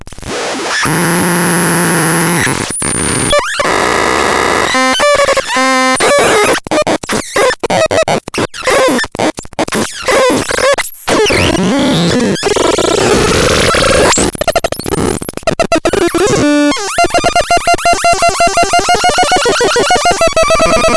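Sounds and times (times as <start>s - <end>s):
harsh electronic synth noise: 0.2s - 20.9s.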